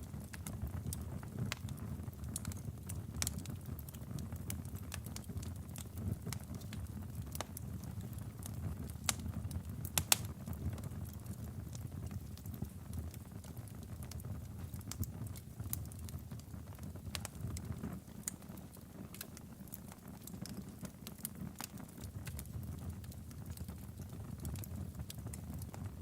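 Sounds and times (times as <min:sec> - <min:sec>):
logs crackling and popping: 0:00.0 - 0:26.0
low rumble of flames: 0:00.0 - 0:26.0.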